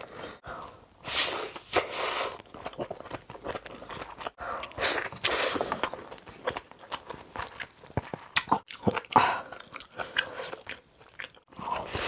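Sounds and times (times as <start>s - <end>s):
chewing rice with wet mouth sounds: 2.3s - 12.0s.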